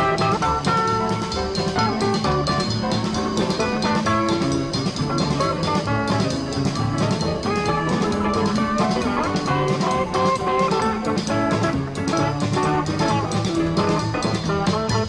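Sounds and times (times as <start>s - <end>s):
blues band playing: 0.0s - 15.0s
quick guitar run: 0.0s - 15.0s.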